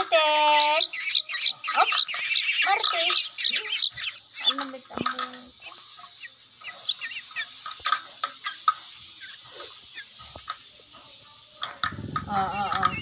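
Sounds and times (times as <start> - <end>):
nestling birds chirping: 0.0 - 13.0.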